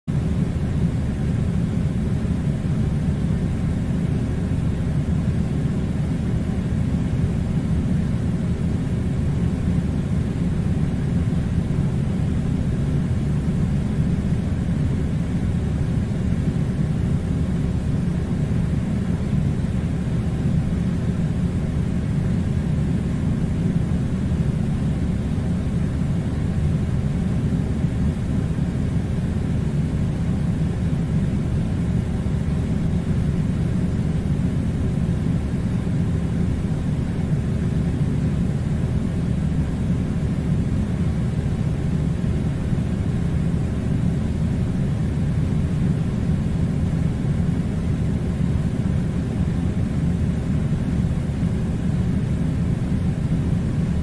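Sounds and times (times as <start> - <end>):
air conditioner running: 0.1 - 54.0.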